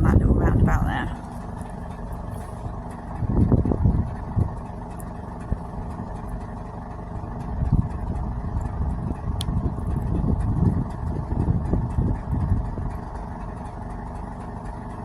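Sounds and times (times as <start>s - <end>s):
low rumbling road noise: 0.0s - 15.0s
vehicle engine running: 0.0s - 15.0s.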